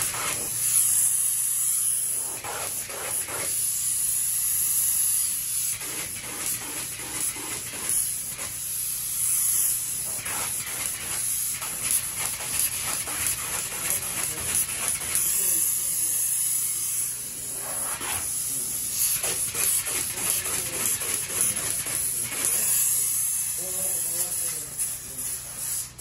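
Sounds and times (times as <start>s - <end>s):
spray foam gun hissing: 0.0s - 26.0s.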